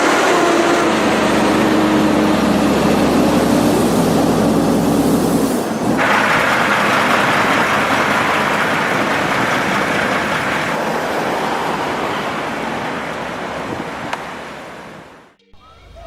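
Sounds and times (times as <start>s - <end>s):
heavy vehicle road noise: 0.0s - 15.4s.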